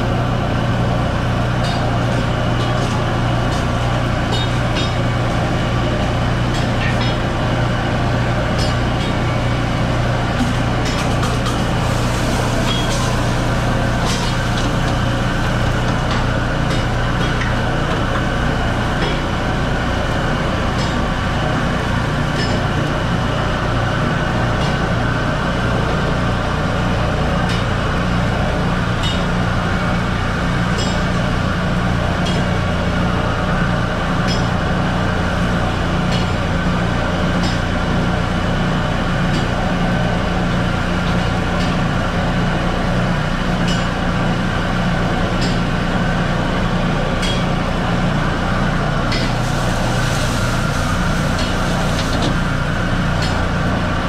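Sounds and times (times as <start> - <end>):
gas burners roaring: 0.0 - 54.0.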